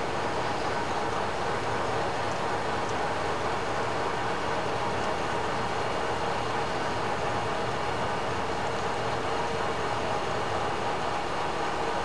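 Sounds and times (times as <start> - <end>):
diesel train running: 0.0 - 12.0.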